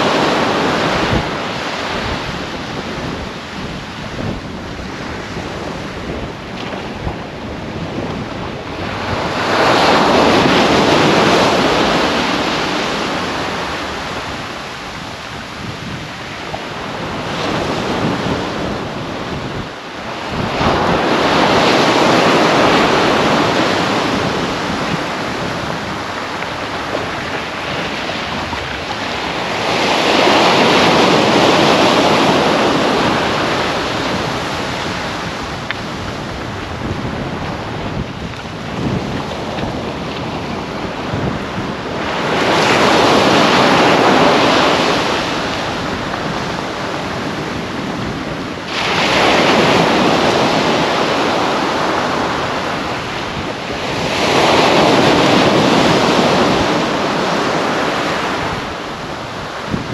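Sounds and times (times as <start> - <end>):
surf breaking on beach: 0.0 - 59.9
wind: 0.0 - 59.9.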